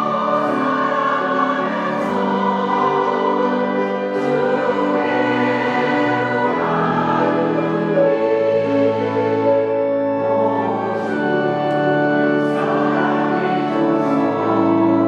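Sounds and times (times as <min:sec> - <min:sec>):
choir singing a hymn: 0:00.0 - 0:15.0
instrumental accompaniment: 0:00.0 - 0:15.0.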